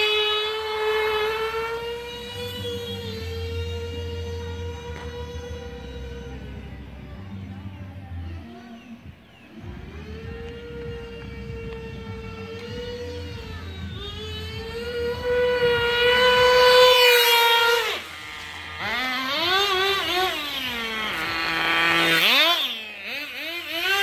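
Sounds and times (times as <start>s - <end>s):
nitro engine revving: 0.0s - 24.0s.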